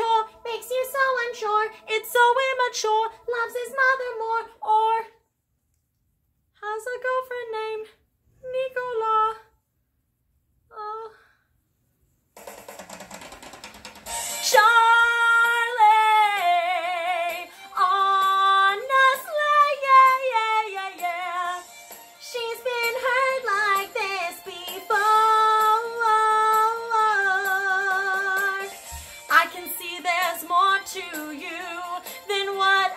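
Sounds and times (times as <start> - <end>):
woman singing with vibrato: 0.0 - 5.2, 6.6 - 9.5, 14.4 - 32.9.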